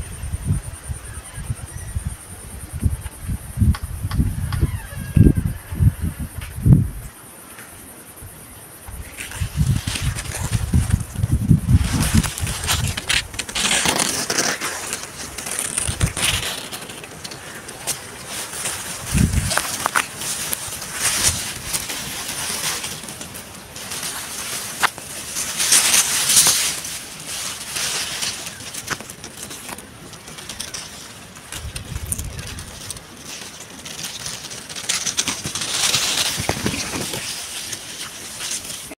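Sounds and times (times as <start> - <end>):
grass and leaves rustling: 0.0 - 39.0.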